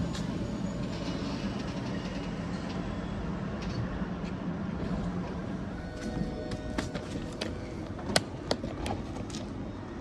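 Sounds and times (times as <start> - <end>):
train rolling with low rumble: 0.0 - 10.0.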